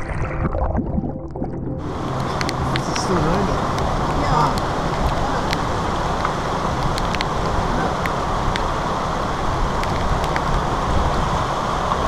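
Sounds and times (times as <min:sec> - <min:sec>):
floodwater rushing: 0:01.8 - 0:12.0
heavy rain: 0:01.8 - 0:12.0
raindrops ticking on camera: 0:01.8 - 0:12.0.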